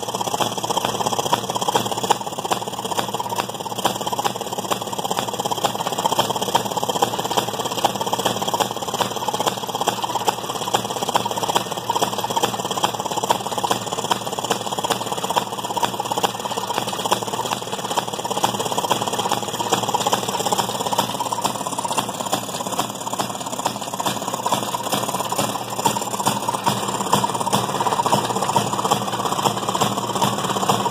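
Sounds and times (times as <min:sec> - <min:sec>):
small two-stroke engine clattering: 0:00.0 - 0:30.9
washing machine gearing: 0:00.0 - 0:30.9.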